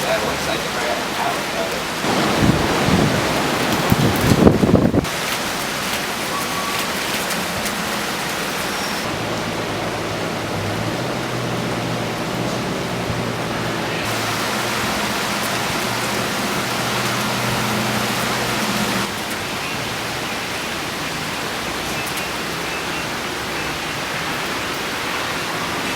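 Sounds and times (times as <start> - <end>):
heavy rain pouring: 0.0 - 25.9
running water: 0.0 - 25.9.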